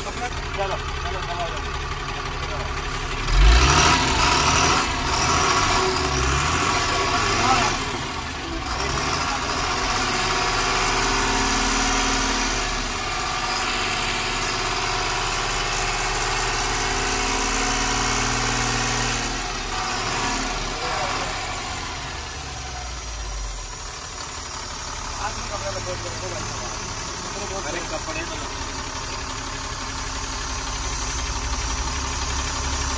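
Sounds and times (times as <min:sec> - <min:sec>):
road noise: 0:00.0 - 0:32.9
truck engine: 0:00.0 - 0:32.9.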